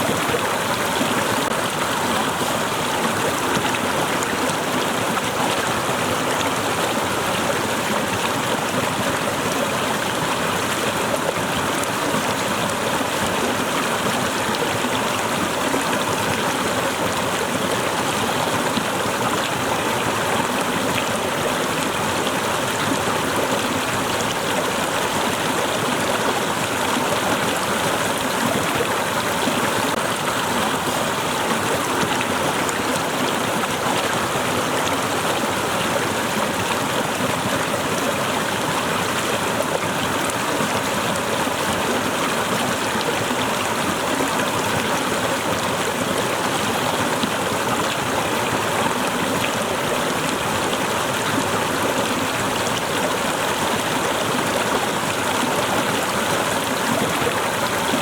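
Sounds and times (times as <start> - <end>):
waterfall cascading: 0.0 - 58.0.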